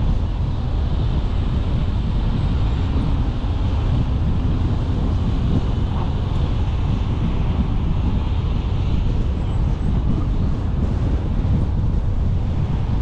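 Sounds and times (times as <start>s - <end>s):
tyre and road noise: 0.0s - 13.0s
wind buffeting microphone: 0.0s - 13.0s.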